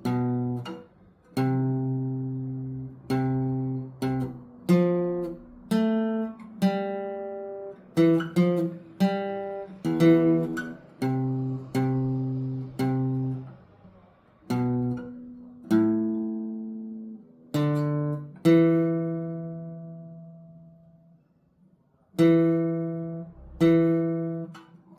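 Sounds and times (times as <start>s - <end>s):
acoustic guitar melody: 0.0s - 24.9s.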